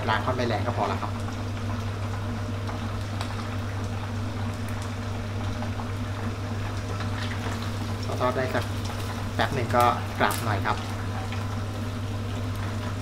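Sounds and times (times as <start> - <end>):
oil bubbling and sizzling: 0.0 - 13.0.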